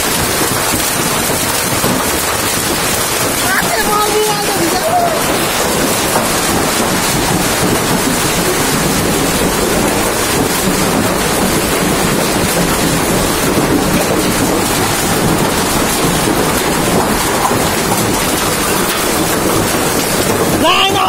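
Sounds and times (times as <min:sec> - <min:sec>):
heavy rain with hail: 0:00.0 - 0:21.0.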